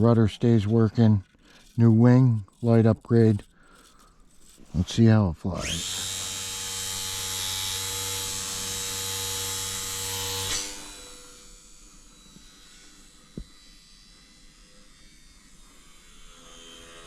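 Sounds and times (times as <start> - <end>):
model plane motor whine: 0.0 - 17.0.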